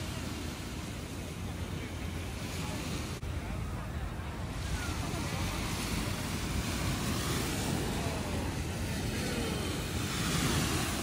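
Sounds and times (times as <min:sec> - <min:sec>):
waves washing onto beach: 0:00.0 - 0:11.0
wind buffeting microphone: 0:00.0 - 0:11.0.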